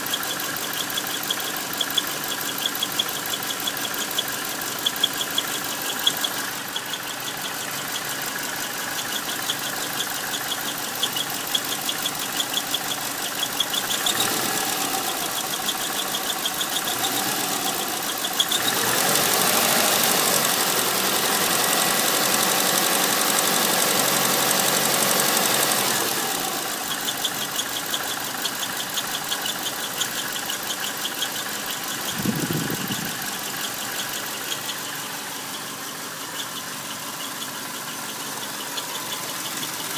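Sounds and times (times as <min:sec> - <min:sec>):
high-pitched rhythmic squeal: 0:00.0 - 0:18.8, 0:26.3 - 0:39.9
car engine idling: 0:00.0 - 0:39.9.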